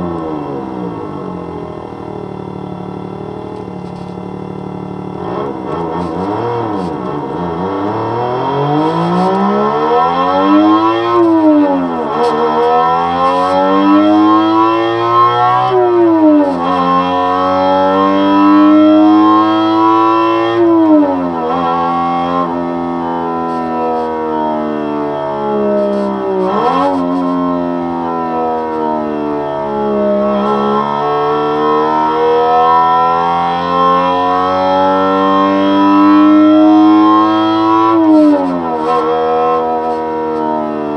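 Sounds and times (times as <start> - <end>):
electronic engine exhaust note revving: 0.0 - 40.9.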